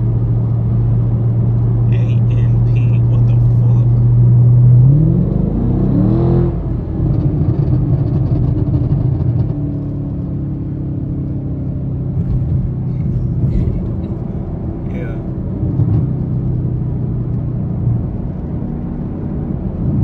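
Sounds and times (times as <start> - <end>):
car engine accelerating: 0.0 - 20.0
road noise: 0.0 - 20.0.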